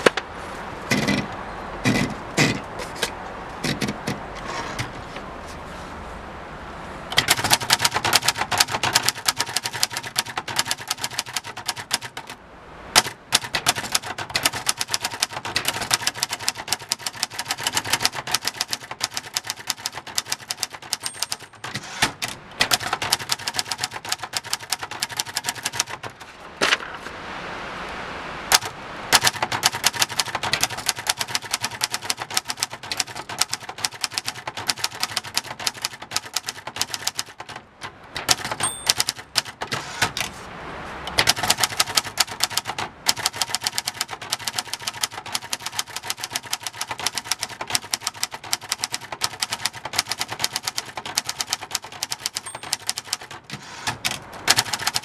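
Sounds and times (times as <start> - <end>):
typewriter keys clacking: 0.9 - 4.2, 7.1 - 12.4, 13.0 - 26.3, 28.5 - 40.4, 41.1 - 55.0.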